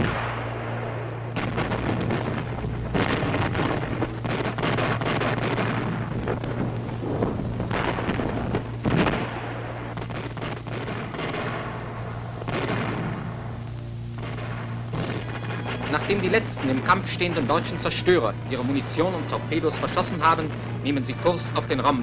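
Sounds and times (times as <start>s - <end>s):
gunfire and explosions: 0.0s - 22.0s
low film soundtrack hum: 0.0s - 22.0s.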